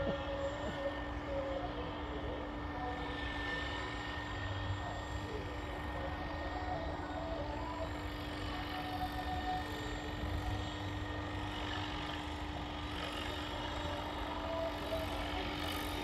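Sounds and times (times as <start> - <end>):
model helicopter running: 0.0 - 16.0.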